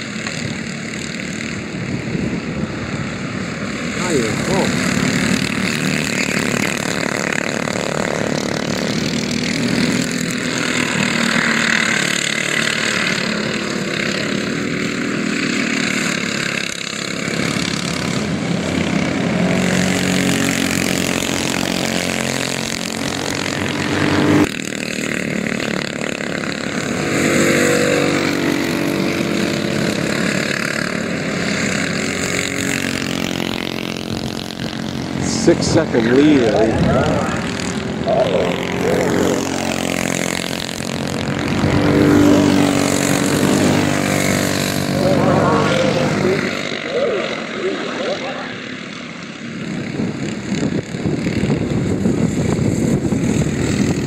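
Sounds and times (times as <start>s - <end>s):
kart engines passing: 0.0s - 54.0s.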